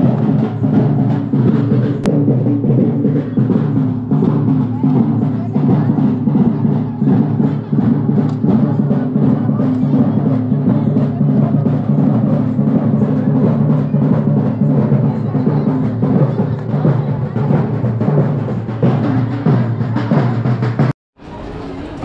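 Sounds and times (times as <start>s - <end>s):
loud music with drumming: 0.0s - 20.9s.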